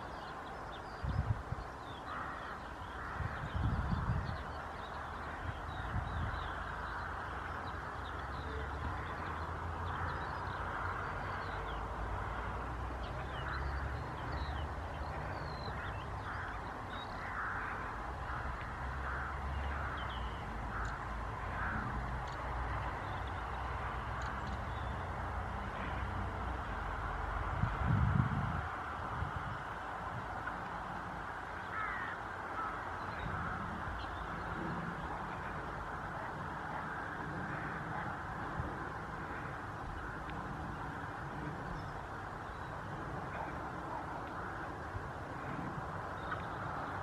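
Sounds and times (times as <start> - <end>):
distant birds calling: 0.0 - 27.8, 28.6 - 47.0.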